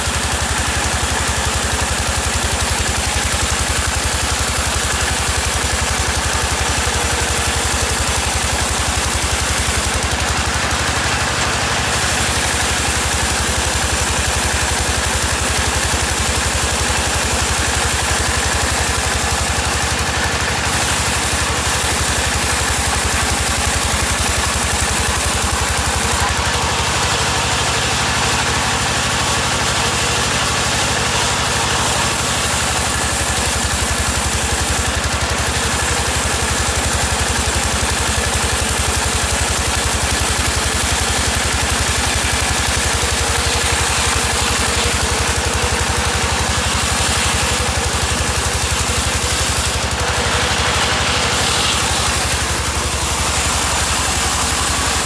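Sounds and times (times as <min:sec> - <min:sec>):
sawmill engine chugging: 0:00.0 - 0:55.0.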